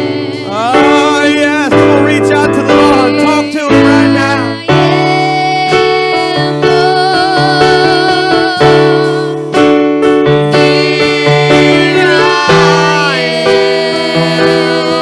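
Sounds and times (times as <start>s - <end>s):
electric keyboard chords: 0.0s - 15.0s.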